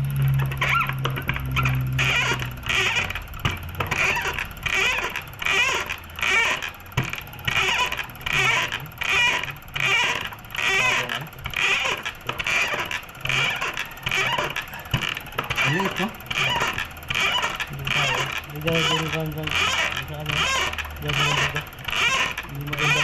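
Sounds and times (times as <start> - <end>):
fuel injector pulsing: 0.0 - 23.0.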